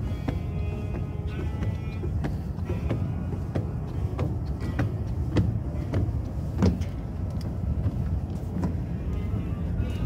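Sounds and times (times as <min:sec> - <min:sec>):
footsteps on stairs and wooden deck: 0:00.0 - 0:10.0
steady low rumble: 0:00.0 - 0:10.0.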